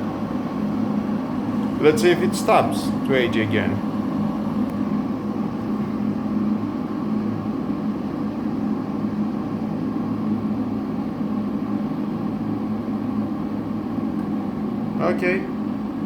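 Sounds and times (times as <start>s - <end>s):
kettle water boiling: 0.0s - 16.0s.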